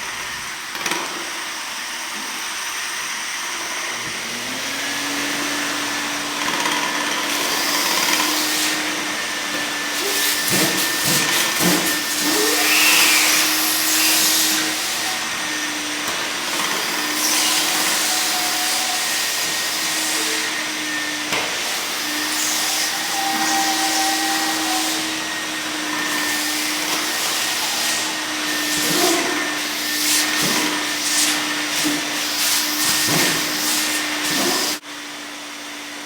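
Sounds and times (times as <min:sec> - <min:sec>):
floor machine rushing hum: 0:03.8 - 0:34.9.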